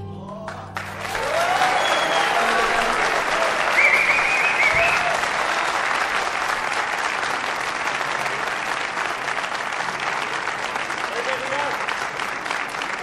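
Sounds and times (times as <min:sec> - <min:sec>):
audience applauding: 0:00.3 - 0:13.0.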